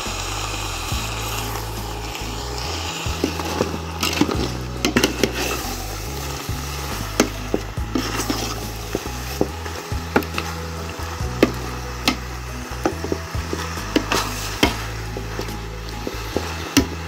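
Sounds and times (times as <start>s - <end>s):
sauce sizzling: 0.0s - 17.0s
metal ladle scraping a pot: 1.1s - 17.0s.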